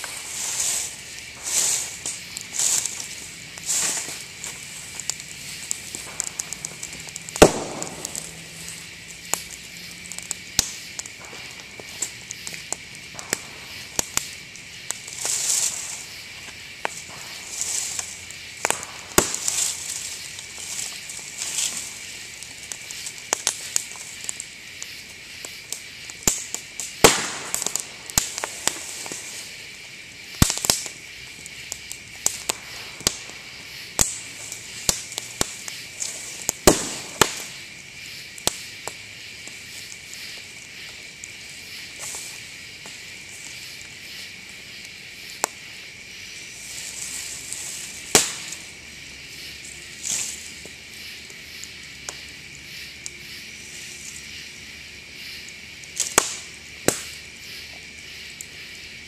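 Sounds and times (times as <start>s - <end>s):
bamboo popping and crackling in fire: 0.0s - 59.0s
high insect chirring: 0.0s - 59.0s.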